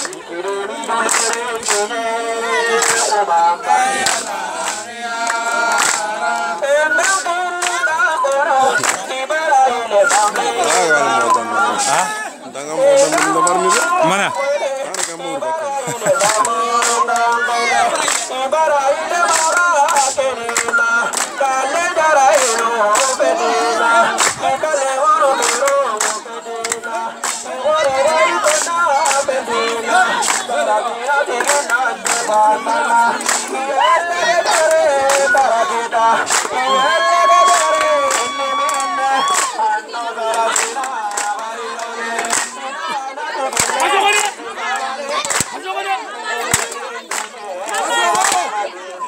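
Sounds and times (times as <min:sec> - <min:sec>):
group singing a chant: 0:00.0 - 0:49.0.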